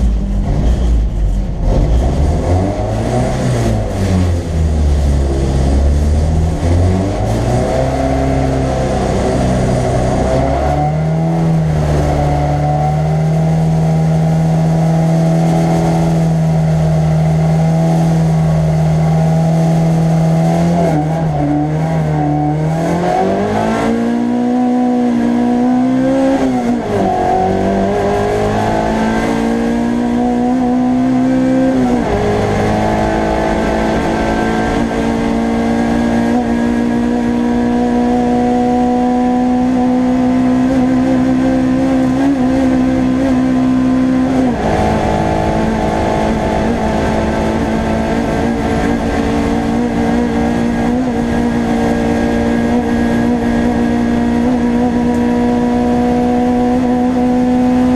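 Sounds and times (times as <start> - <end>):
race car engine accelerating: 0.0 - 57.9.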